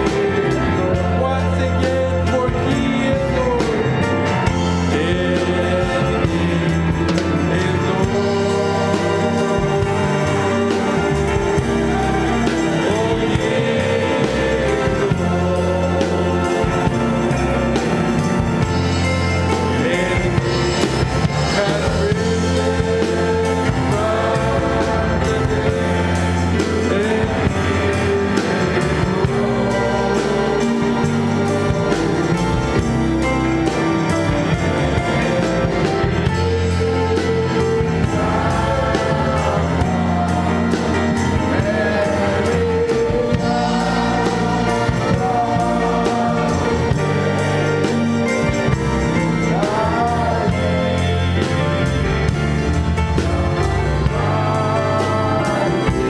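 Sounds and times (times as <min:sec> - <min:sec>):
gospel group singing over band: 0:00.0 - 0:56.0.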